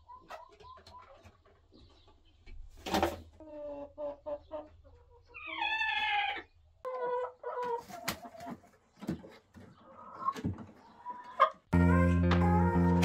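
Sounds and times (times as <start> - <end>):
hens clucking and calling: 0.0 - 2.4, 3.0 - 11.8.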